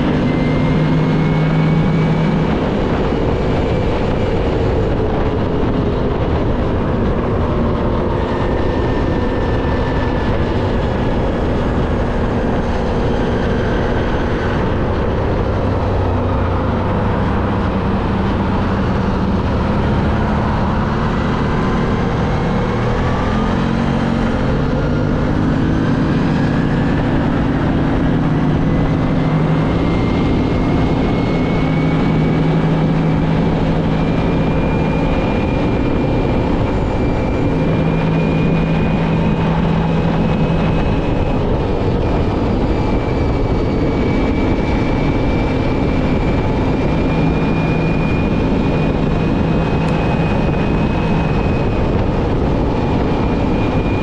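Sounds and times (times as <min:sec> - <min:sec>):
steady rush of noise: 0:00.0 - 0:54.0.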